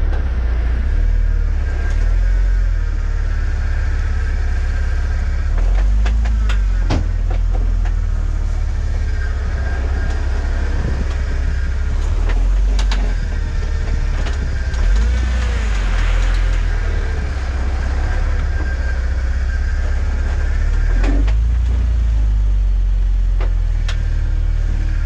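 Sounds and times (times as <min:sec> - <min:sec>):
off-road vehicle engine rumbling: 0:00.0 - 0:25.0.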